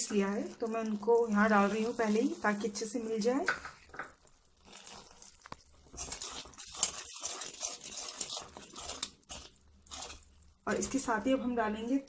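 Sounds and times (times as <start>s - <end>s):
spoon stirring and scraping pan: 0.0s - 12.0s.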